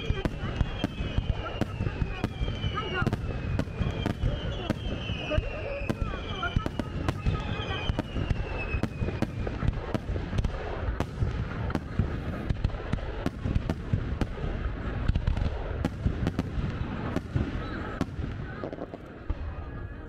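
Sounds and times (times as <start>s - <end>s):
firework cracks: 0.0s - 19.2s.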